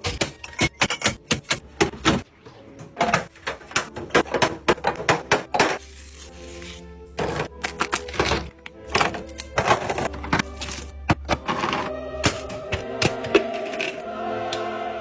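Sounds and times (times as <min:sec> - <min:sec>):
hard items clacking and knocking: 0:00.0 - 0:06.1, 0:07.2 - 0:14.6.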